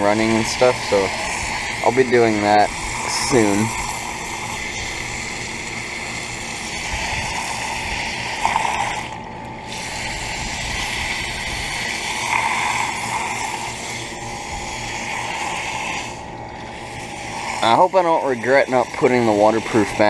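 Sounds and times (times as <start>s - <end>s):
air conditioner humming: 0.0s - 20.0s
hose spraying water on metal coil: 0.0s - 20.0s.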